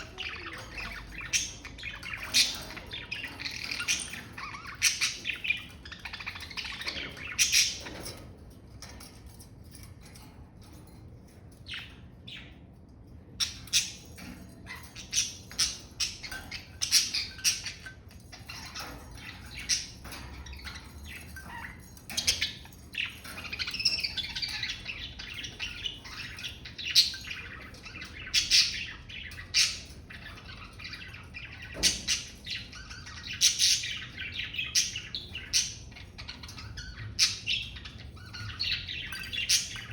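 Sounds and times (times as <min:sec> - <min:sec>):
budgerigars chirping: 0:00.0 - 0:08.3, 0:13.3 - 0:39.9.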